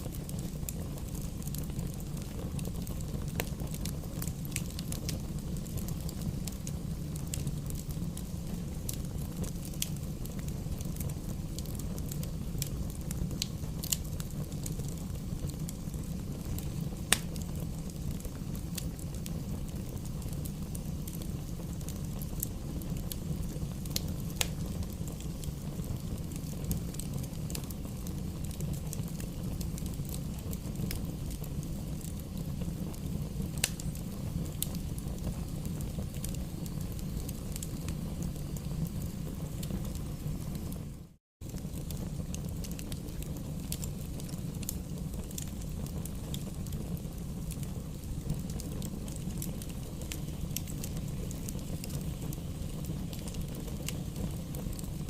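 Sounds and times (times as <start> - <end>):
bonfire low rumble: 0.0 - 55.0
fire pops and crackles: 0.0 - 55.0.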